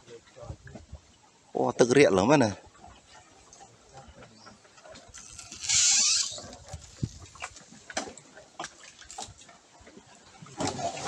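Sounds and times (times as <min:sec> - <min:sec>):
branches scraping wooden boat: 0:02.1 - 0:11.0.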